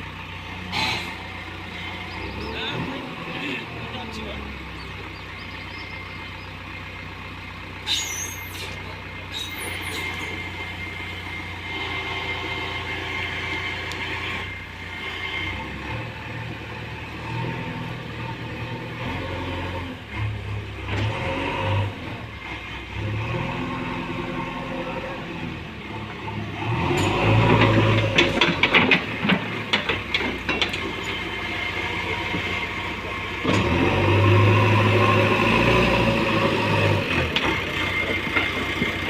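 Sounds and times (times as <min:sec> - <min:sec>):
diesel engine revving: 0:00.0 - 0:39.0.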